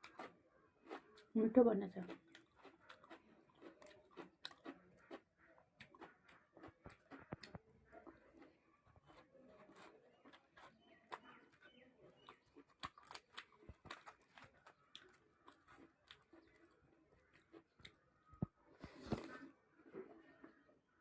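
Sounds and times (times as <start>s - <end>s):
person chewing food: 0.0s - 1.3s, 1.9s - 20.6s.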